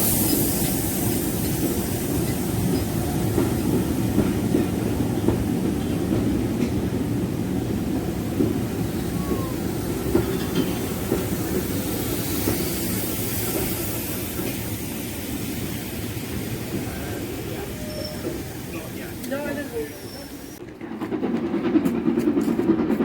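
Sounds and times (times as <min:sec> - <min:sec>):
steam train rumbling along rails: 0:00.0 - 0:23.0.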